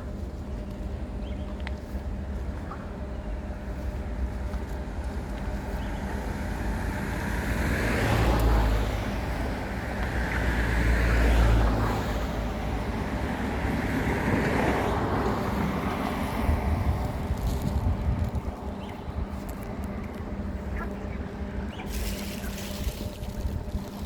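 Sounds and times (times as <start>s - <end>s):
road traffic rumble: 0.0s - 24.0s
vehicles passing: 0.0s - 24.0s.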